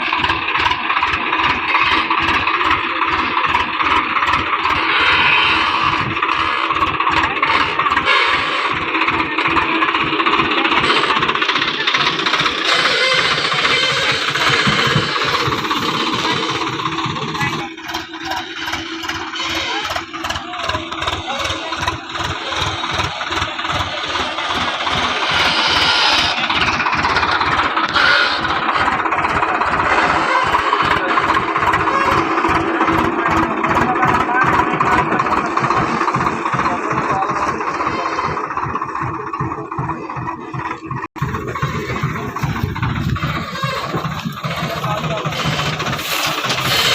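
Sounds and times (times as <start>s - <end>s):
tractor diesel engine chugging: 0.0s - 46.9s.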